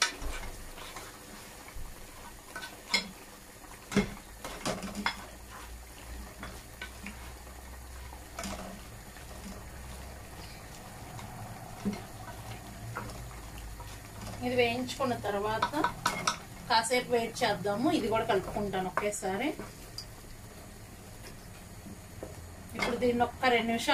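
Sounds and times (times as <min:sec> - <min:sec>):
faint sizzle: 0:00.0 - 0:23.9.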